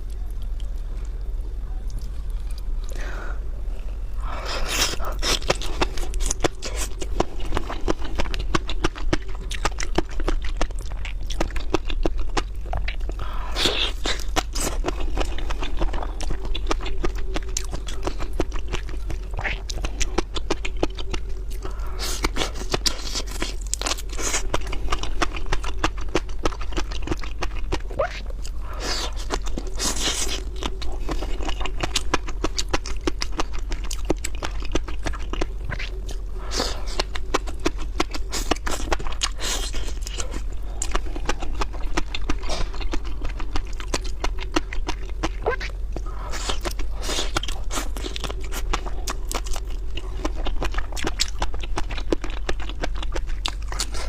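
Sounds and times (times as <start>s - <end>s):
low electrical hum: 0.0s - 54.0s
wet chewing and crunching: 3.7s - 54.0s.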